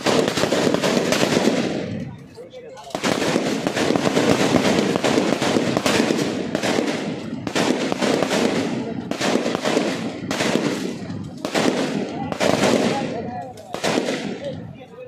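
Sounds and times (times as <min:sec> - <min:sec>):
gunshots echoing: 0:00.0 - 0:14.8.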